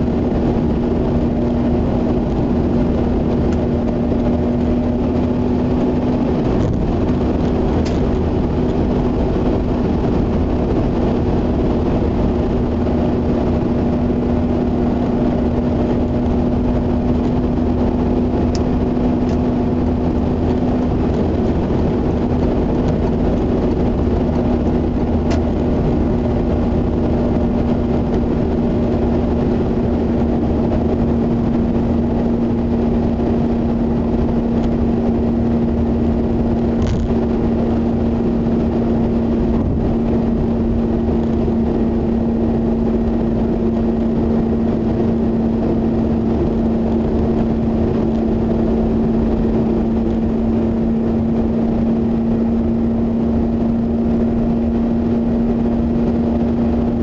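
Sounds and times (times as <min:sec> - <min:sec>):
car engine and tyre hum: 0:00.0 - 0:57.0.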